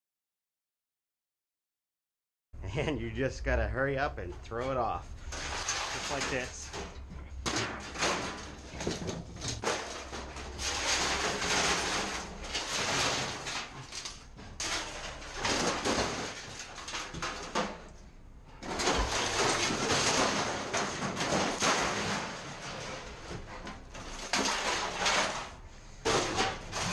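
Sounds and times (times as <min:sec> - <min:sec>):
scrap metal clattering and scraping: 0:04.2 - 0:26.9.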